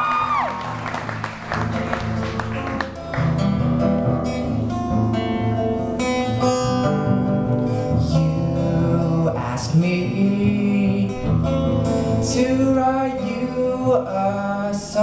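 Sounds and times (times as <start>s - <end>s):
acoustic guitar strumming chords: 1.5s - 15.0s.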